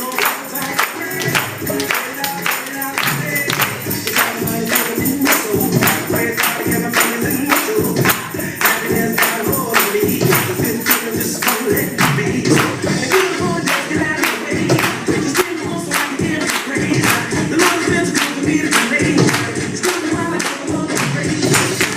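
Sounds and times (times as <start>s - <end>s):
people singing: 0.0s - 21.9s
sharp steady beat: 0.0s - 21.9s.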